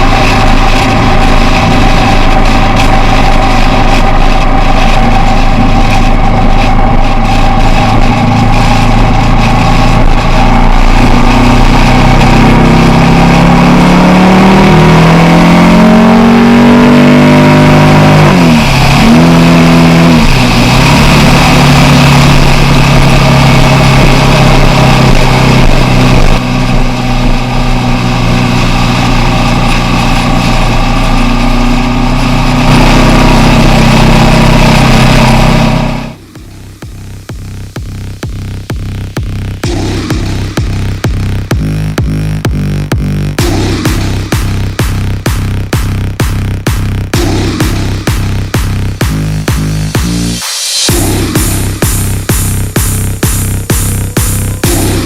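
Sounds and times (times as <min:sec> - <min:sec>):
motorcycle engine shifting gears: 0:00.0 - 0:55.0.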